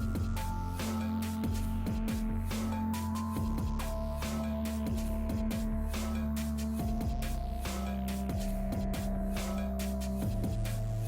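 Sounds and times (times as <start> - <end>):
electronic music with bass kicks: 0.0 - 11.0.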